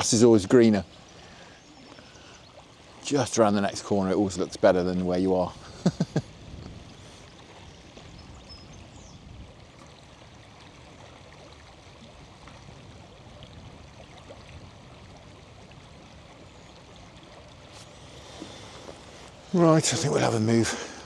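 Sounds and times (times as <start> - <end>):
river flowing: 0.0 - 21.0.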